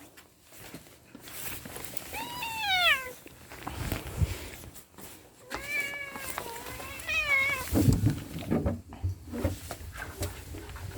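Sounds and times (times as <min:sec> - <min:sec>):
knocks and shuffling: 0:00.0 - 0:10.9.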